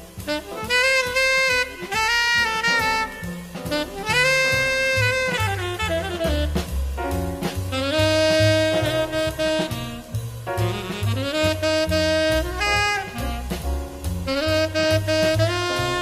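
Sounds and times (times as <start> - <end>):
saxophone lead long notes: 0.0 - 7.0, 7.7 - 16.0
light drums: 0.0 - 16.0
stepping bass line: 0.0 - 16.0.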